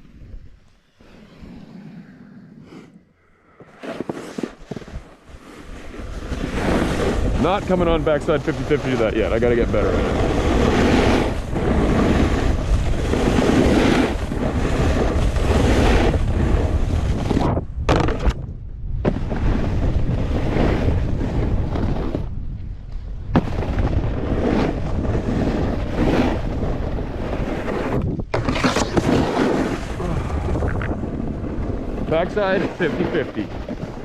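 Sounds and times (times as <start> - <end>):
wind over microphone: 0.0 - 3.1, 4.5 - 34.0
snowboard sliding over snow: 3.6 - 18.3, 19.0 - 34.0.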